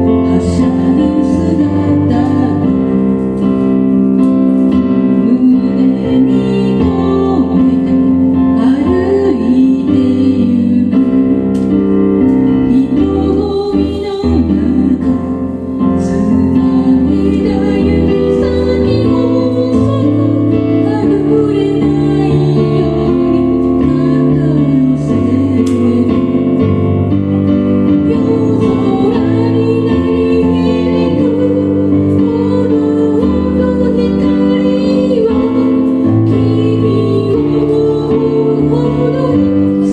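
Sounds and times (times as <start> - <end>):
keyboard chords: 0.0 - 39.9
person singing: 0.0 - 39.9.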